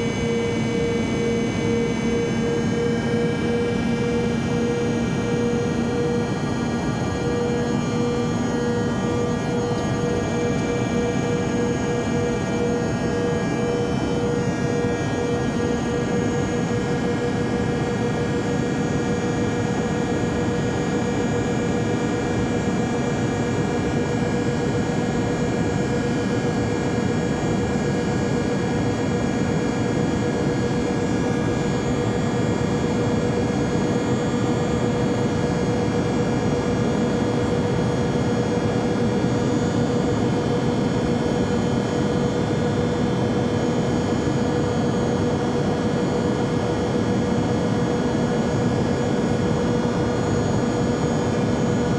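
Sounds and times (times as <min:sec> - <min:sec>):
airplane cabin drone: 0:00.0 - 0:51.9.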